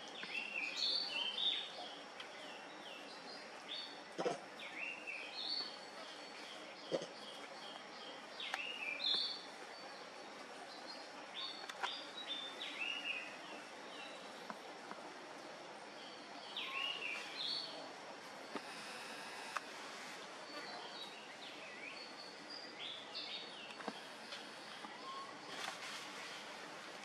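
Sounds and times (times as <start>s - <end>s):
small birds chirping: 0.0s - 26.6s
background hiss: 0.0s - 27.0s.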